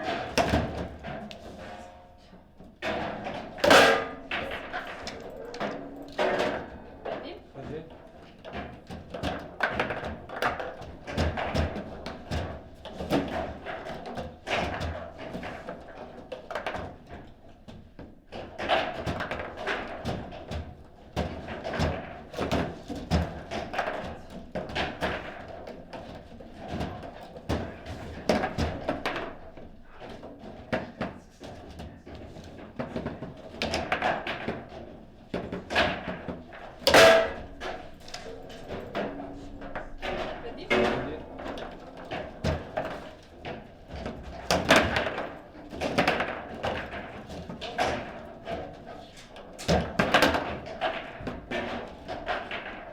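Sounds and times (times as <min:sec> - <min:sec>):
foosball rods clacking: 0:02.7 - 0:17.4, 0:18.3 - 0:52.9.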